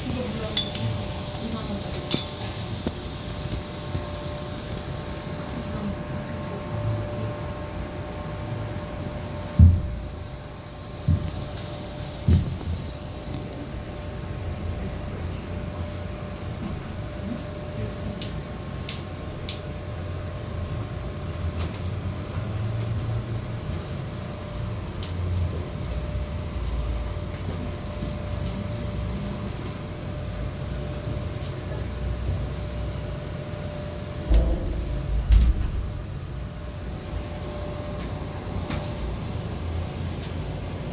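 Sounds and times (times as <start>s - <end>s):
cable car cabin rumble and hum: 0.0s - 40.9s
faint steady whine: 0.0s - 40.9s.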